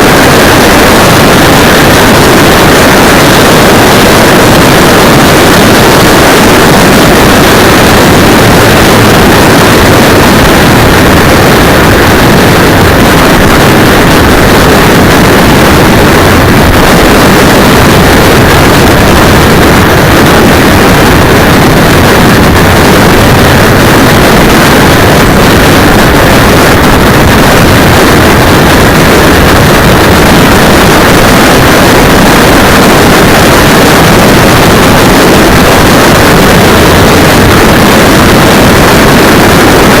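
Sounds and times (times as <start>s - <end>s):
motorcycle engine roar: 0.0s - 40.0s
wind noise on microphone: 0.0s - 40.0s.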